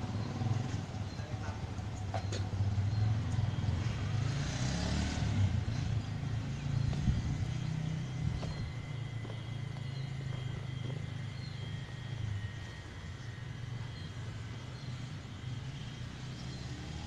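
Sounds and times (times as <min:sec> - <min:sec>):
road noise: 0:00.0 - 0:17.0
vehicle engine rumbling: 0:00.0 - 0:17.0.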